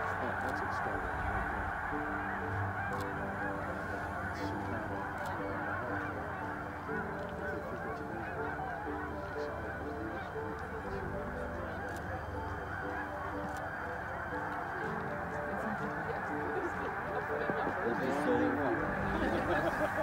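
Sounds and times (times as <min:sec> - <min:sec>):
flock of geese honking: 0:00.0 - 0:20.0.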